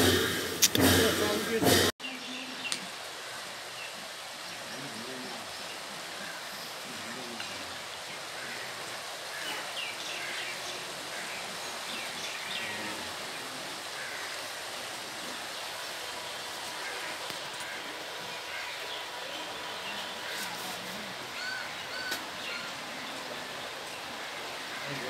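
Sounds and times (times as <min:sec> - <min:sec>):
river rushing over stones: 0:00.0 - 0:25.0.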